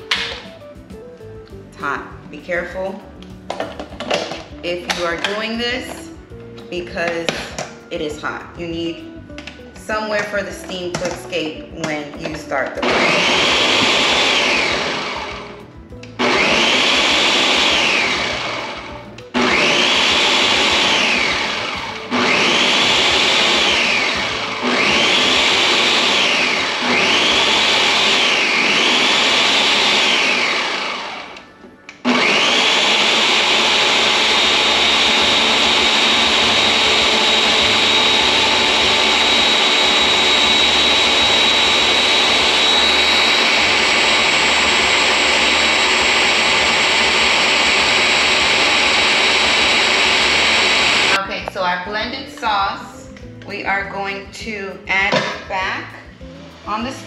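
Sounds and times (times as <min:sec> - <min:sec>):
blender whining: 0:01.8 - 0:51.2.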